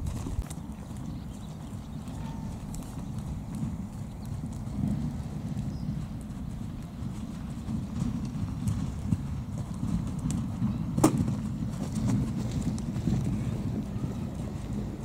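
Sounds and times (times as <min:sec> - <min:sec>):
horse hoofbeats trotting: 0:00.0 - 0:15.0.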